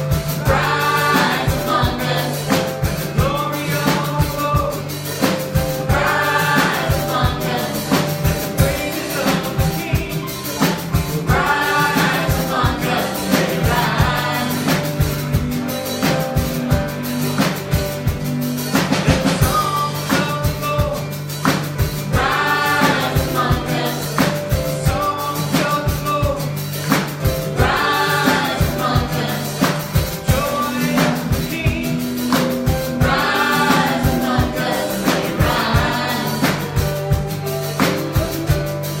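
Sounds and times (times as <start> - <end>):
band playing worship music: 0.0 - 39.0
bass: 0.0 - 39.0
drum kit steady beat: 0.0 - 39.0
gospel singers: 0.0 - 39.0.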